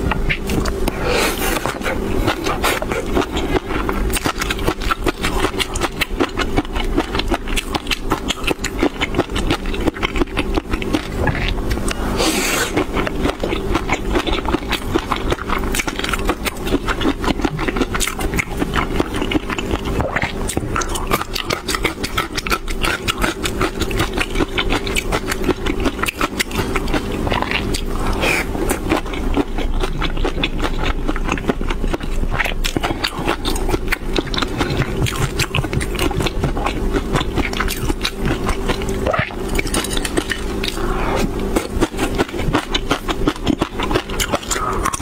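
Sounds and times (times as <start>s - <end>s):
steady low hum: 0.0s - 45.0s
wet chewing: 0.0s - 45.0s.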